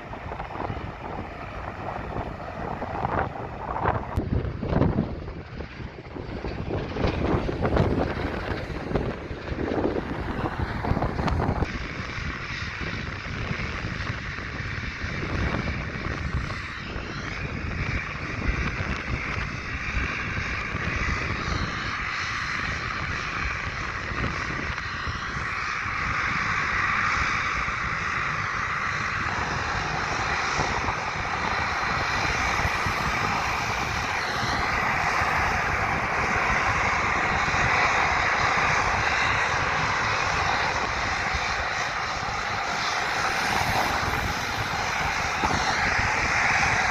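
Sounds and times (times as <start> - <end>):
propeller airliner engines running: 0.0 - 46.9
wind buffeting microphone: 0.0 - 46.9.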